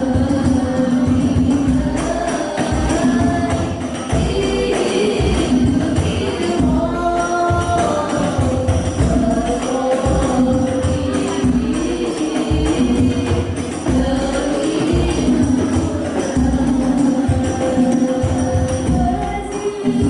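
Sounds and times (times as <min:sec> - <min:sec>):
frame drums: 0:00.0 - 0:20.0
person singing devotional song: 0:00.0 - 0:20.0.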